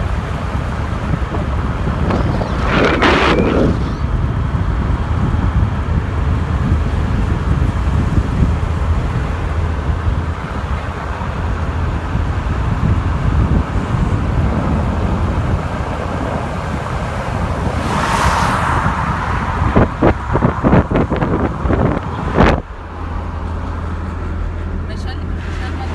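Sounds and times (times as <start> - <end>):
wind on microphone: 0.0 - 22.8
car road noise rumble: 0.0 - 25.9.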